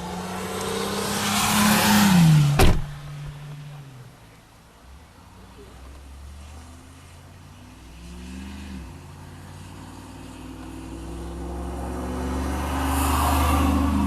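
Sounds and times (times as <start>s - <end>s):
vehicle engine: 0.0s - 14.0s.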